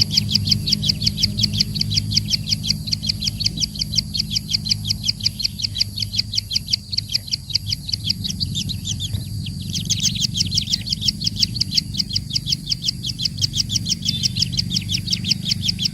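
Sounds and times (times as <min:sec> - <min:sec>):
small bird chirping: 0:00.0 - 0:15.9.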